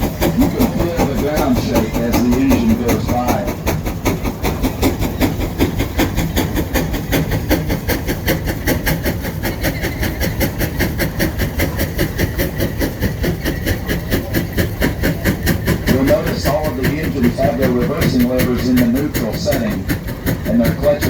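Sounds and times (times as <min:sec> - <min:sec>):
steam engine exhaust chuffing: 0:00.0 - 0:21.0.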